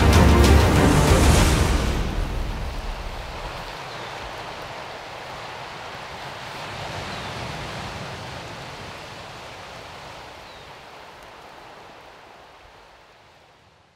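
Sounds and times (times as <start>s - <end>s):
coastal forest rushing noise: 0.0s - 13.9s.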